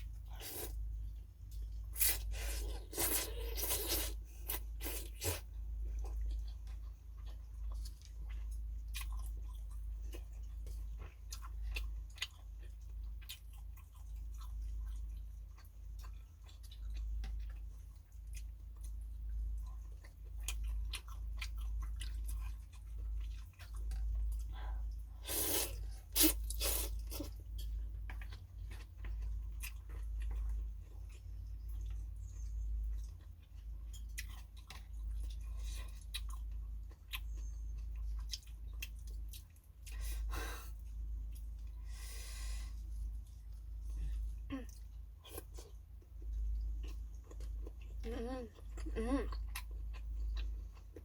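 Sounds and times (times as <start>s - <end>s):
person chewing: 0.0s - 51.0s
steady low hum: 0.0s - 51.0s.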